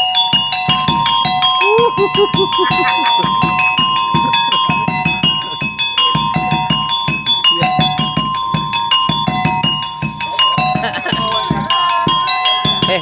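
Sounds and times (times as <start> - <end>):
rapid drumbeats: 0.0 - 13.0.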